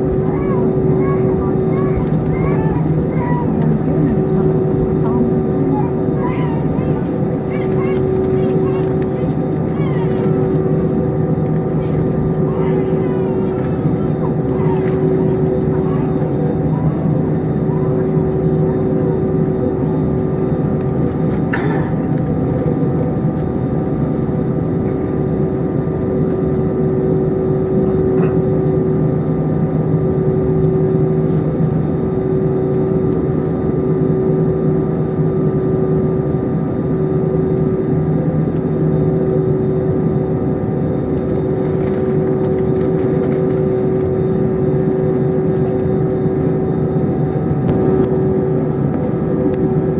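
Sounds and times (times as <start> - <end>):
airplane cabin engine drone: 0.0 - 49.9
constant hum: 0.0 - 49.9.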